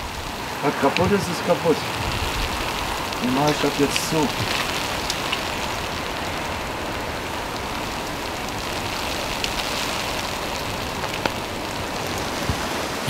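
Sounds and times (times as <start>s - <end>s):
steady rain falling: 0.0s - 13.0s
single raindrops: 0.9s - 12.7s.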